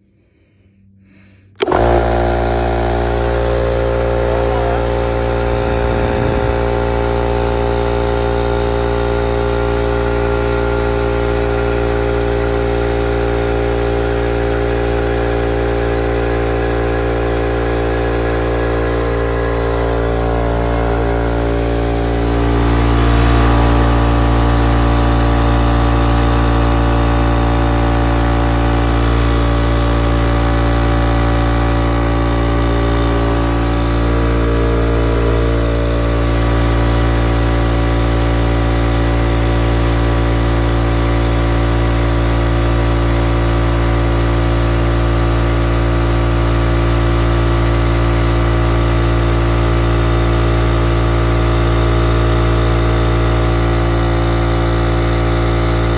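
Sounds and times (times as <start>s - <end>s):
air compressor running: 0.0s - 55.9s.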